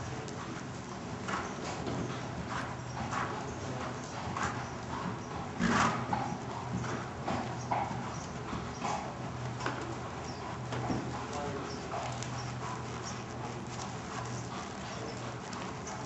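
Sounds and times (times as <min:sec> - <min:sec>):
horse hoofbeats: 0:00.0 - 0:16.0.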